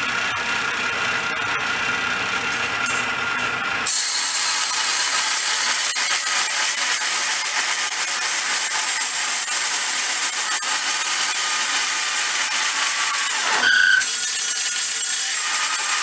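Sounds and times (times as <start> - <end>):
table saw cutting steel: 0.0 - 16.0.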